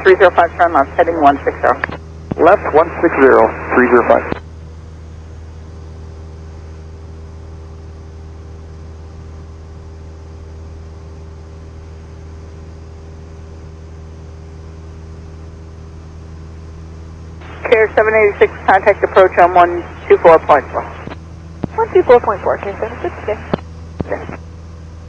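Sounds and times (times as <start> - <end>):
airplane engine drone: 0.0 - 25.0.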